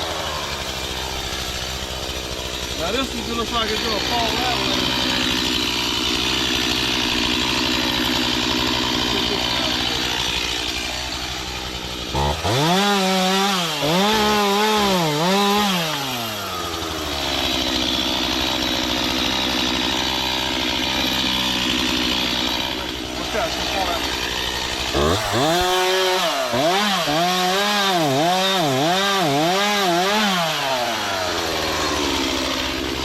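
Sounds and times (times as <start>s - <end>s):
chainsaw revving: 0.0s - 33.0s.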